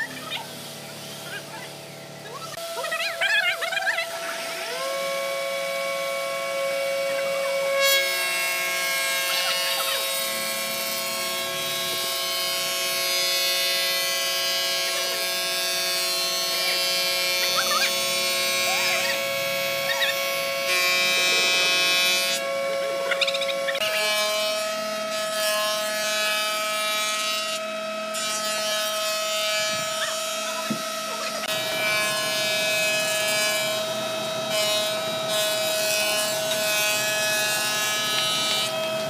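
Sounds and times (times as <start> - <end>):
planer cutters hissing on wood: 0.0 - 2.8, 4.0 - 39.0
planer motor whine: 4.0 - 39.0.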